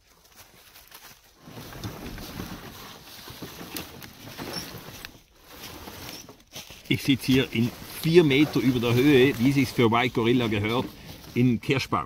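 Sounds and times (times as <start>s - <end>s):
footsteps in leaves: 0.0s - 11.7s
dry leaves rustling and crackling: 0.0s - 11.8s
cart dragged across forest floor: 0.0s - 12.0s.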